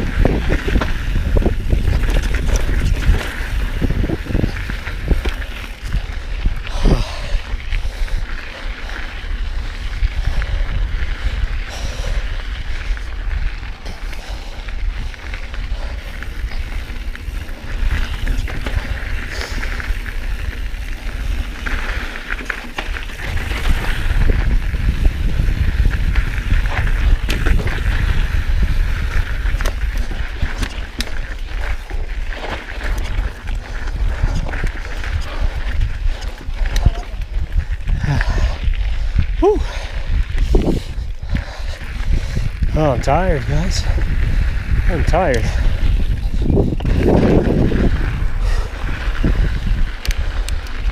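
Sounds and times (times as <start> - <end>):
bike rattling and clicking: 0.0 - 50.9
bike tyres on dirt trail: 0.0 - 50.9
wind rumbling on microphone: 0.0 - 50.9.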